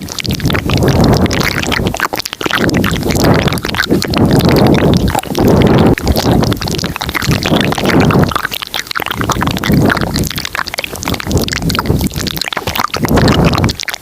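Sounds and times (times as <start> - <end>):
wet mouth clicks and smacks: 0.0 - 14.0.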